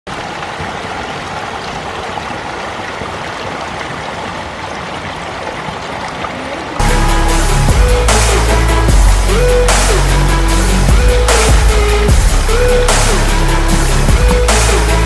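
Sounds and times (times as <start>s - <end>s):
hose water splashing on paddles: 0.1s - 15.0s.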